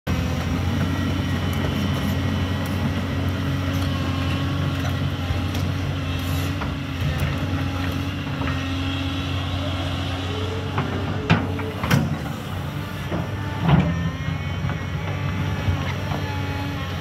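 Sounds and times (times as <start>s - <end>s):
diesel excavator engine running: 0.1s - 17.0s.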